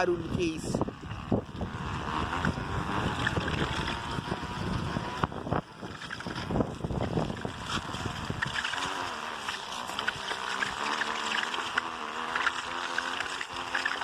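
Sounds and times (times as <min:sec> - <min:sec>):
wind on microphone: 0:00.0 - 0:11.8
carton flapping on bicycle spokes: 0:01.0 - 0:14.0.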